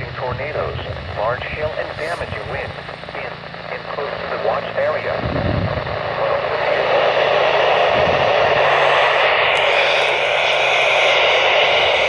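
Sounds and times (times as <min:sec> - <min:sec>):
radio static hissing: 0:00.0 - 0:12.0.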